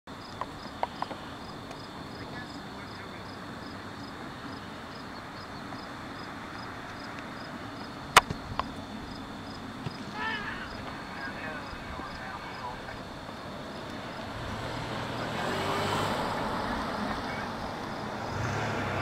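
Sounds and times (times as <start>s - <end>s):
outdoor background noise: 0.1s - 19.0s.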